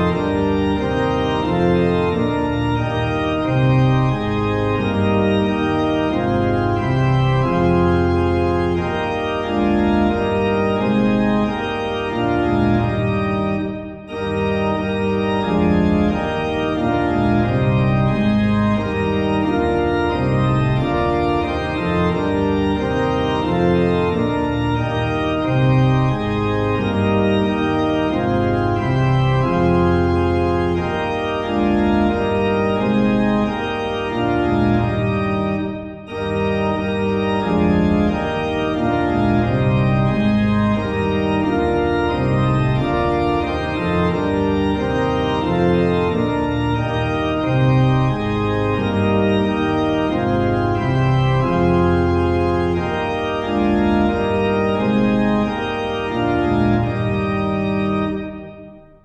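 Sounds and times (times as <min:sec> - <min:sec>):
organ playing hymn chords: 0:00.0 - 0:59.0.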